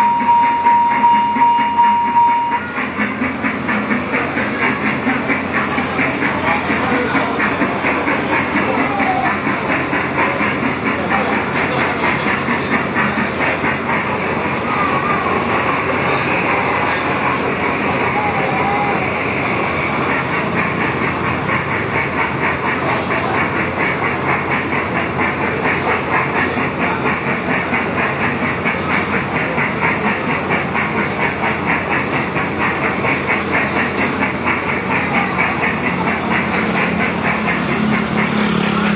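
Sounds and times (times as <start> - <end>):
kiddie ride train clattering: 0.0 - 38.9.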